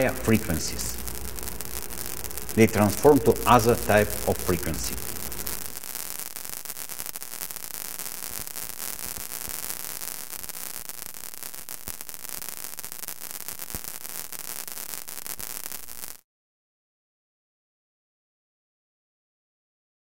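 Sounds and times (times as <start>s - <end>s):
faint crackles: 0.0s - 16.2s
static-like hiss: 0.0s - 16.2s.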